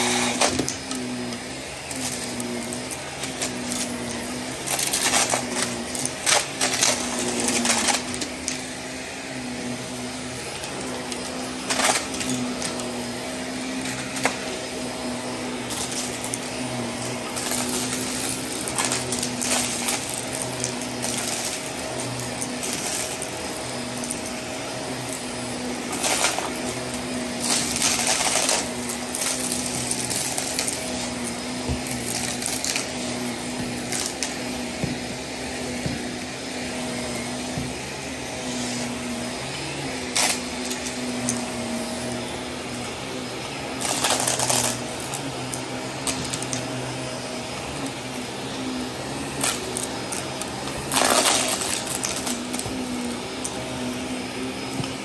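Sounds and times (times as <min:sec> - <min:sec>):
small objects rattling into vacuum: 0:00.0 - 0:08.8, 0:10.6 - 0:47.4, 0:48.0 - 0:55.0
upright vacuum cleaner running: 0:00.0 - 0:55.0.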